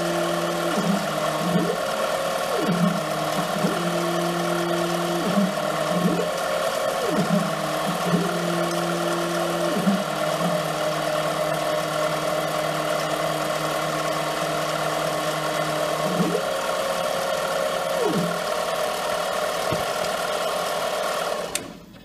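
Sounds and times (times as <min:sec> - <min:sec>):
lathe spindle drive humming: 0:00.0 - 0:21.8
stepper motor whine: 0:00.0 - 0:21.8.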